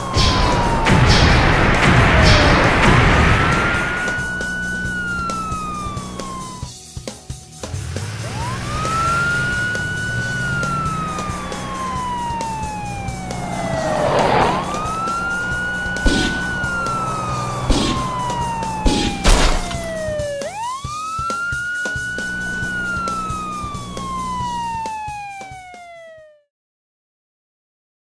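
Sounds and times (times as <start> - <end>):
police siren wailing: 0.0 - 6.7, 7.9 - 26.5.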